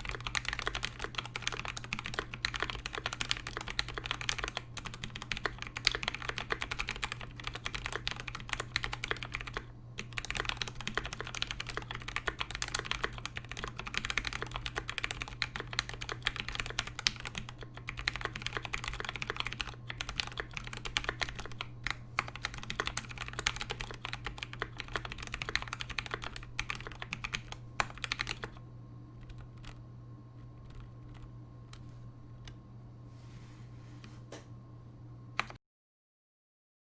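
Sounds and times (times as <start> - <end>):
mechanical keyboard typing: 0.0 - 28.6, 29.2 - 29.8, 30.6 - 31.8, 35.4 - 35.6
low steady hum: 0.0 - 35.6.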